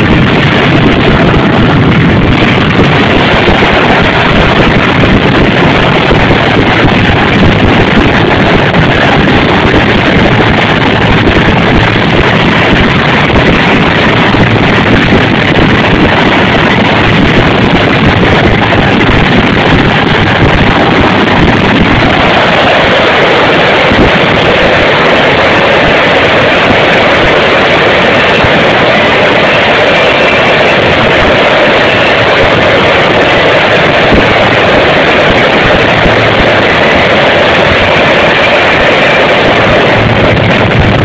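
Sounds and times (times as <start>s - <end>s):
fireworks barrage: 0.0s - 41.0s.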